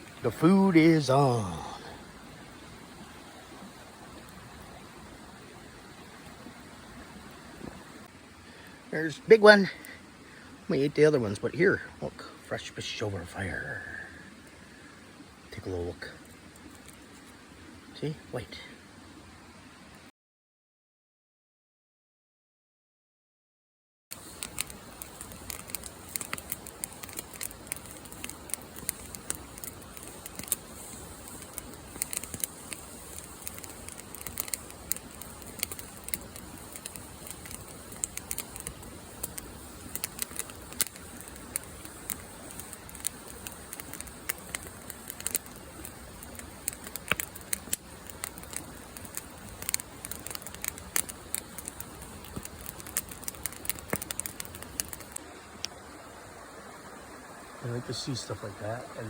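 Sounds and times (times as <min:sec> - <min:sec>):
campfire crackling and popping: 0:00.0 - 0:18.7, 0:24.1 - 0:56.0.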